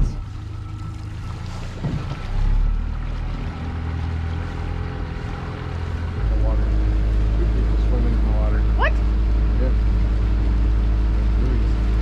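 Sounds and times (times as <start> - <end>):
outboard motor running: 0.0 - 12.0
propeller churning water: 0.0 - 12.0.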